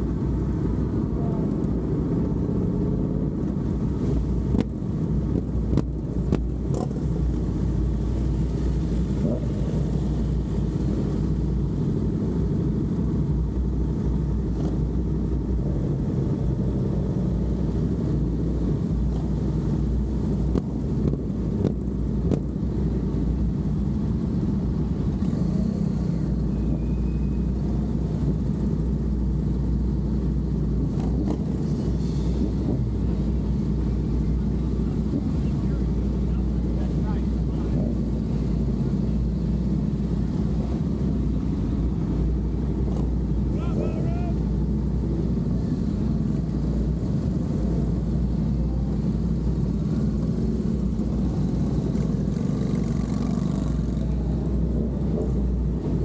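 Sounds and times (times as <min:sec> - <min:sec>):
motorcycles running at low speed: 0:00.0 - 0:56.0.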